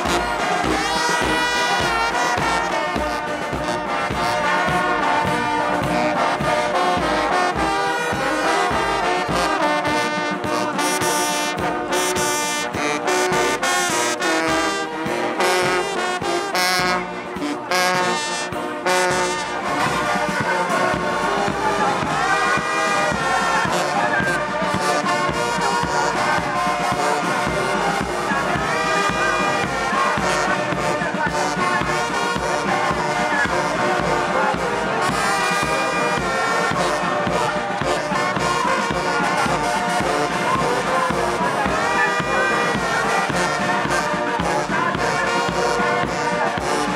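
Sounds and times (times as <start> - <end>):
marching brass band playing: 0.0 - 46.9.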